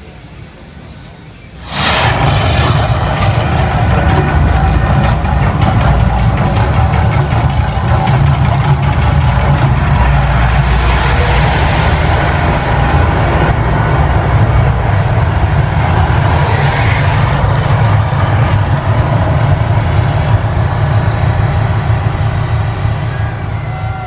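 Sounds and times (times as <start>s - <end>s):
noisy roar: 1.5s - 24.0s
low rumble: 1.6s - 24.0s.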